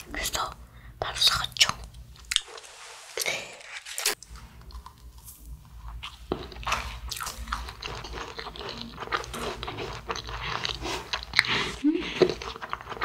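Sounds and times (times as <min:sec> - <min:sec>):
crisp chewing crackles: 0:01.5 - 0:13.0.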